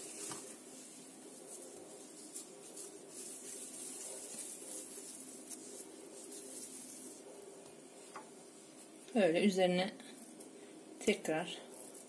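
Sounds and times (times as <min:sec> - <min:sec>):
faint steady hum: 0:00.0 - 0:12.0
plastic gloves rustling: 0:00.0 - 0:12.0.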